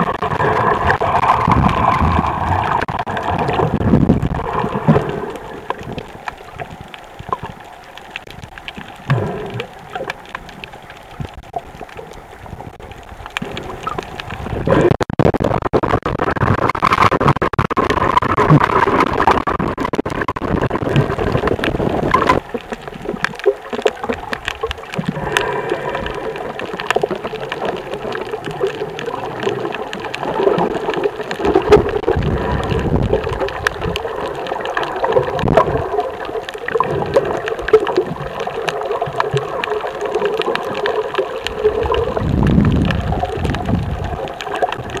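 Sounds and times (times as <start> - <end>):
underwater bubbles rushing and gurgling: 0.0 - 45.0.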